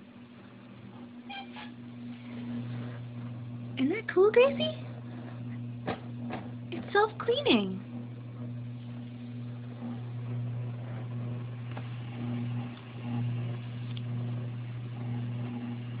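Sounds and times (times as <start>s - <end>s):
litter box motor hum: 0.0s - 16.0s.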